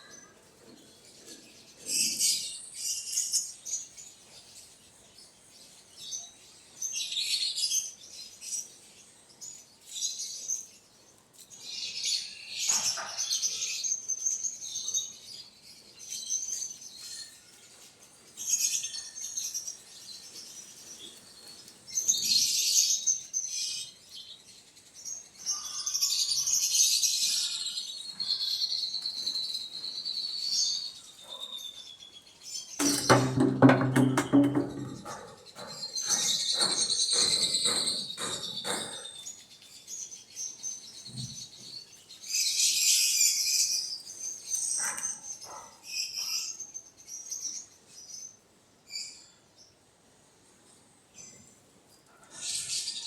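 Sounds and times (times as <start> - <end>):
birds chirping: 0.0 - 49.2.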